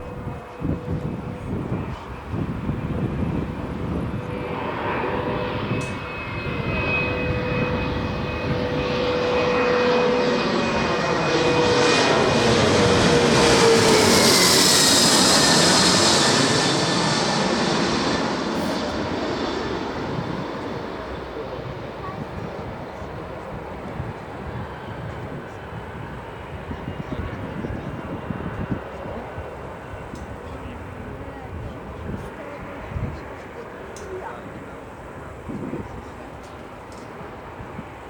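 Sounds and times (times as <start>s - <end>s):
small aeroplane flying past: 0.0s - 38.0s.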